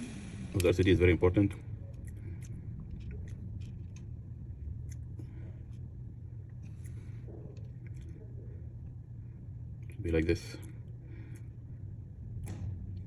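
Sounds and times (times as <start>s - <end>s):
low equipment hum: 0.0s - 13.0s.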